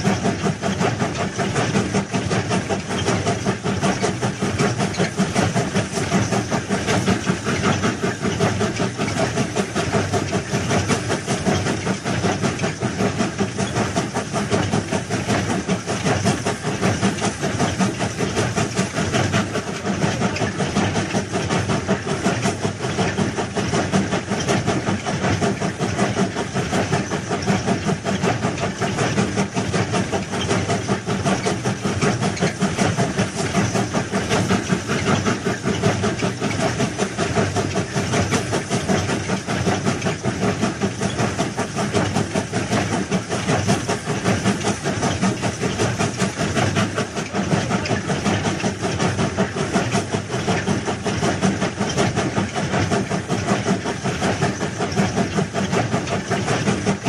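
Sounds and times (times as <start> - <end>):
rattling engine drone: 0.0 - 57.0.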